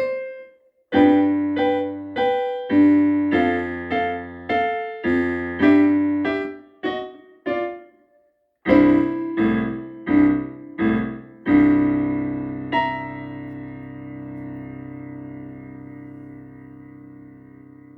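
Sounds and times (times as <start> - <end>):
boogie piano chords: 0.0 - 8.1, 8.7 - 17.9.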